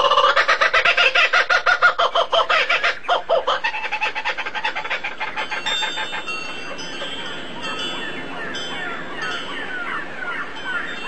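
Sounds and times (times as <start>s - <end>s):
bird calling in rapid notes: 0.0s - 11.0s.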